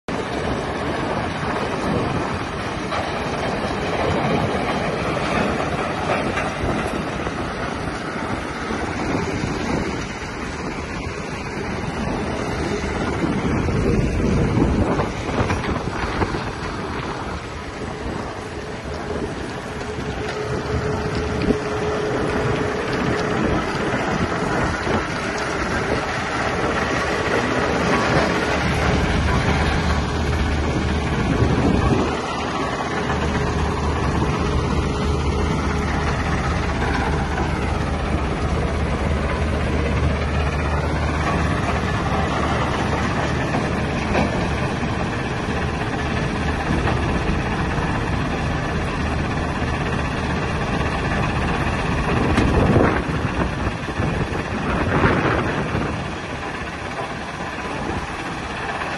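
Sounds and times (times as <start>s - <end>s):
vibrating screen machine running: 0.2s - 58.9s.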